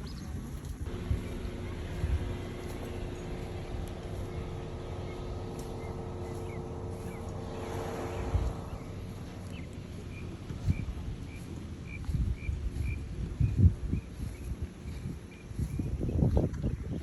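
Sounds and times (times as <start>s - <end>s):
engine hum: 0.0s - 17.0s
wind noise on microphone: 0.0s - 17.0s.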